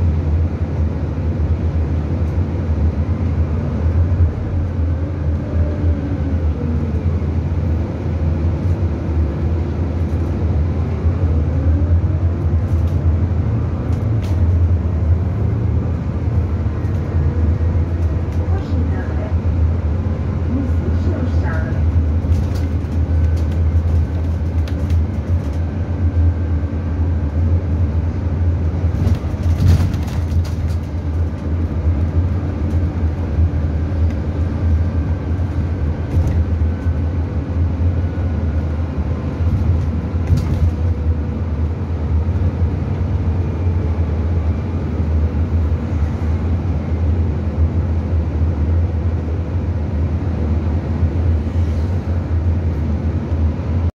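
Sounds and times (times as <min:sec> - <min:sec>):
bus engine rumble: 0:00.0 - 0:53.9
road noise: 0:00.0 - 0:53.9.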